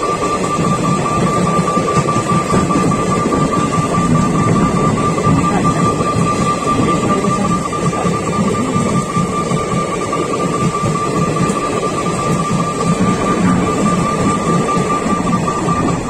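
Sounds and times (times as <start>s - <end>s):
constant high tone: 0.0s - 16.0s
train rumbling past: 0.0s - 16.0s.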